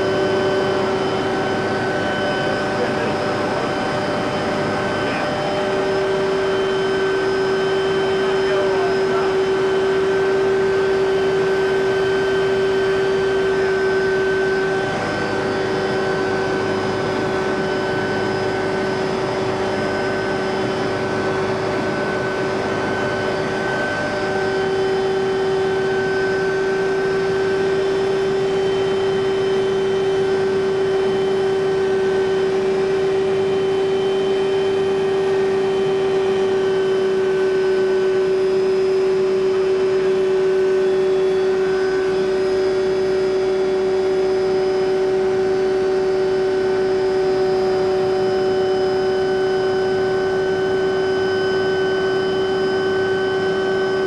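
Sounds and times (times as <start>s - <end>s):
helicopter whine: 0.0s - 54.0s.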